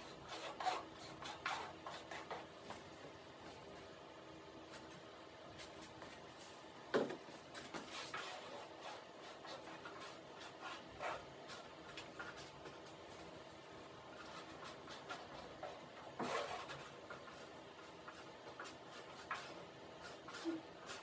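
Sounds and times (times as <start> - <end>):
rubbing and scraping strokes: 0.0 - 3.9, 4.6 - 21.0.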